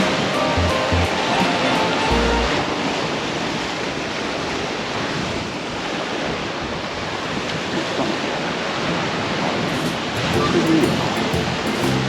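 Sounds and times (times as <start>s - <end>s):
ocean surf rushing: 0.0s - 6.6s, 8.0s - 12.0s.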